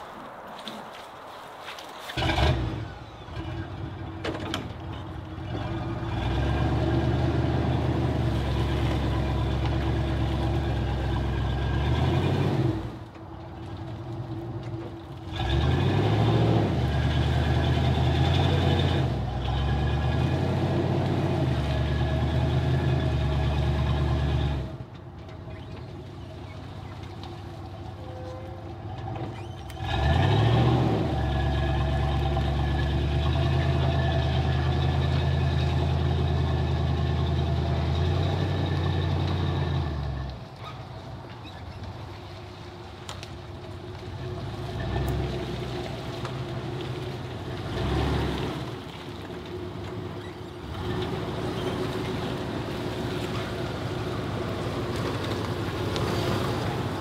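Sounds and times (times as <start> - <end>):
truck engine revving: 2.1 - 41.9, 43.1 - 57.0.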